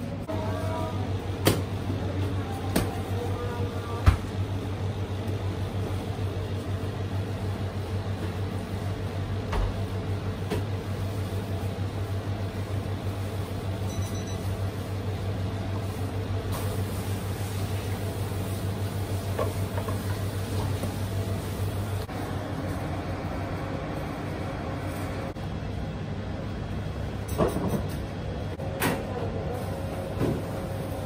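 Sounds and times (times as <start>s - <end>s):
low hum of machinery: 0.0s - 31.0s.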